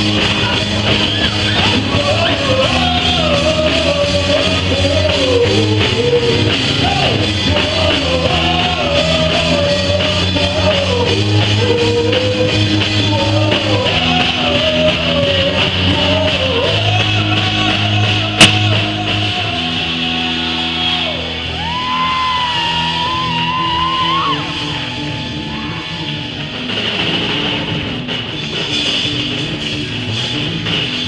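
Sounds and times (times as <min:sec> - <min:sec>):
live reggae band: 0:00.0 - 0:31.0.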